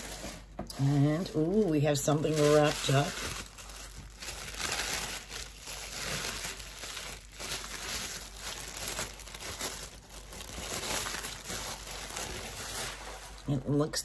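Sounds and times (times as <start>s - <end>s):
packing paper crinkling: 0.0s - 13.7s.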